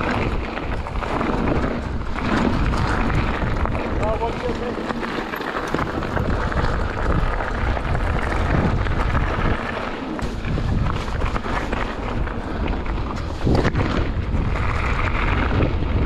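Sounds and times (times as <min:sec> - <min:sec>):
bike rattling over bumps: 0:00.0 - 0:16.0
tyres crunching over stones: 0:00.0 - 0:16.0
wind buffeting microphone: 0:00.0 - 0:16.0.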